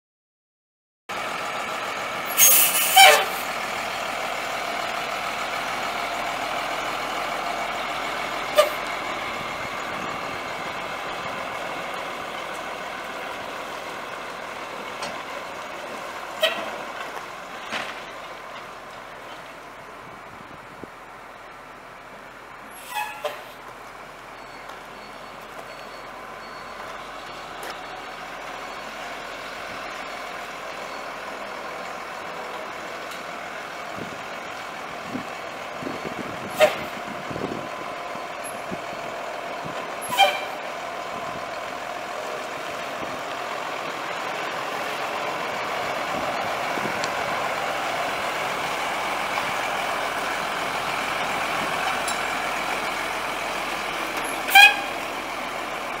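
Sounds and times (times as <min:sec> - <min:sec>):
diesel truck engine running: 0:01.1 - 0:56.0.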